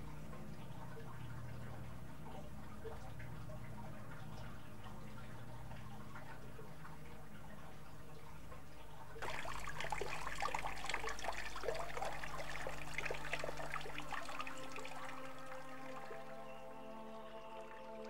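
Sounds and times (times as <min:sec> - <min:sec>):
soft held music tones: 0:00.0 - 0:18.0
water splashing and trickling: 0:00.0 - 0:18.0.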